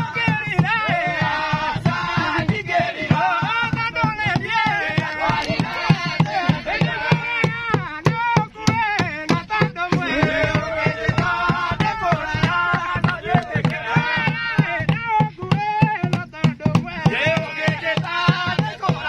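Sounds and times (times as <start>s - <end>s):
group of voices singing: 0.0s - 19.0s
large drum beating fast: 0.0s - 19.0s.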